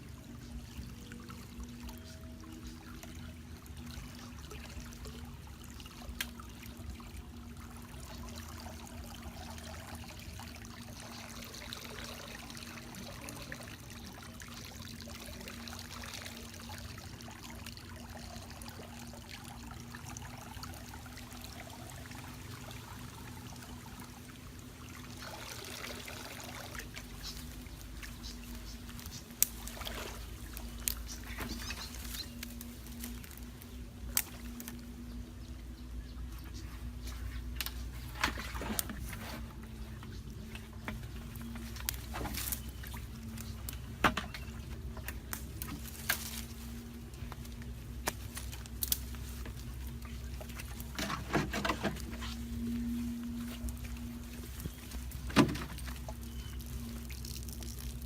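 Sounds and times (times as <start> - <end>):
steady hum: 0.0 - 58.0
water trickling and splashing: 0.0 - 58.0.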